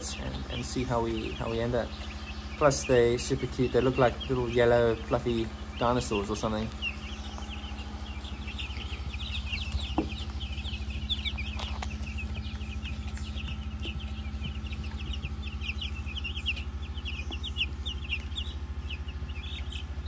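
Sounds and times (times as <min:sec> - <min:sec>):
chicks peeping: 0:00.0 - 0:20.0
low steady hum: 0:00.0 - 0:20.0.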